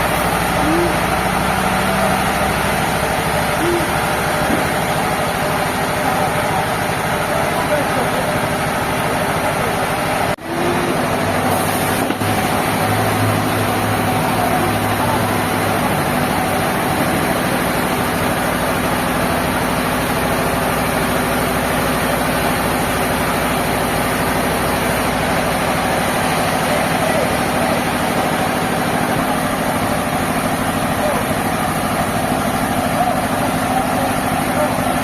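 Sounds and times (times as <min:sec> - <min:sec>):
sawmill machinery droning: 0:00.0 - 0:35.0.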